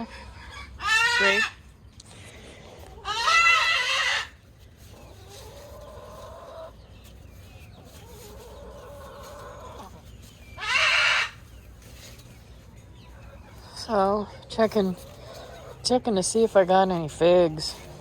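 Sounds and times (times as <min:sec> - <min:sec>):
chickens calling: 0:00.0 - 0:18.0.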